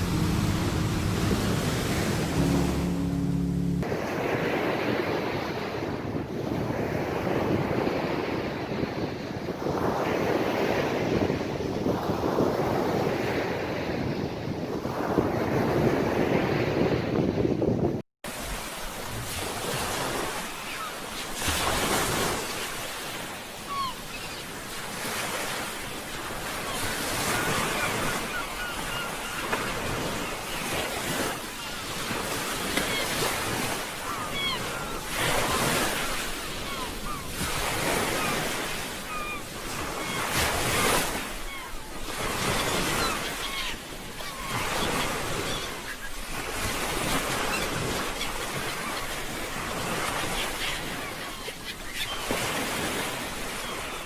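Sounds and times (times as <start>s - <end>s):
sea waves breaking ashore: 0.0s - 8.7s, 18.3s - 54.0s.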